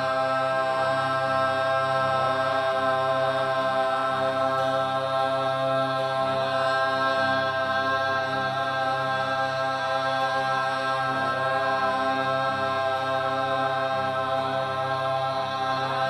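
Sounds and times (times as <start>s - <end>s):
voices chanting a held vowel: 0.0s - 16.0s.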